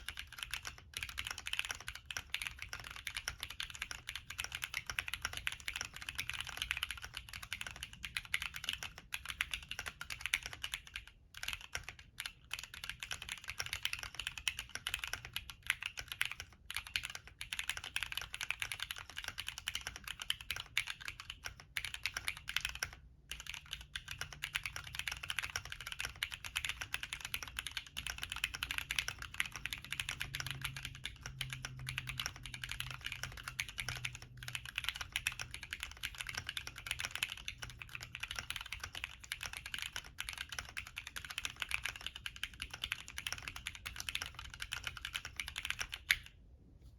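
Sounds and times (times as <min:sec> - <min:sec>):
mechanical keyboard typing: 0:00.0 - 0:46.4.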